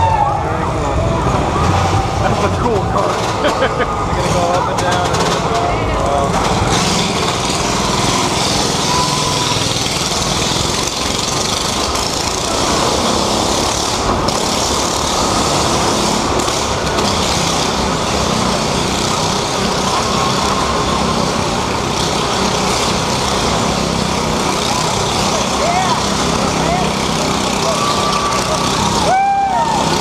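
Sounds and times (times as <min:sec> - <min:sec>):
car engine rumbling: 0:00.0 - 0:30.0
motorcycle engine rumbling: 0:00.0 - 0:30.0.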